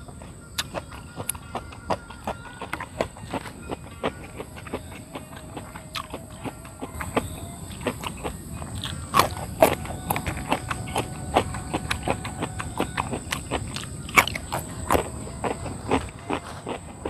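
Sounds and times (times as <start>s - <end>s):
crisp chewing crunches: 0.0s - 17.0s.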